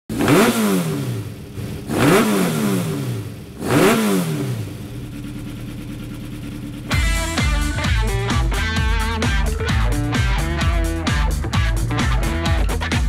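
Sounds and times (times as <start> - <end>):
steady engine drone: 0.1 - 13.0.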